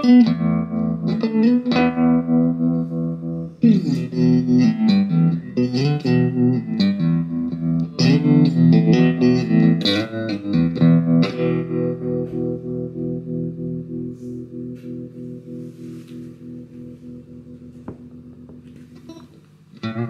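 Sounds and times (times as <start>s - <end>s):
electric guitar with tremolo: 0.0s - 20.0s.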